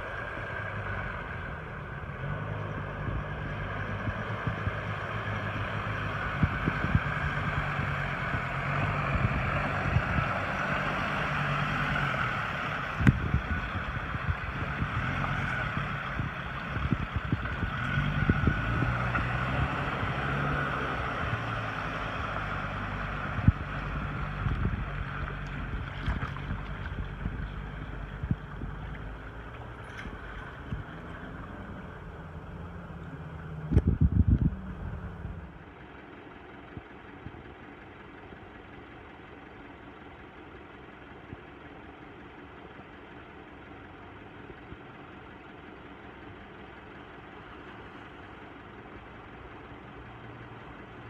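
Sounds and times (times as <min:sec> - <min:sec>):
engine humming: 0:00.0 - 0:51.0.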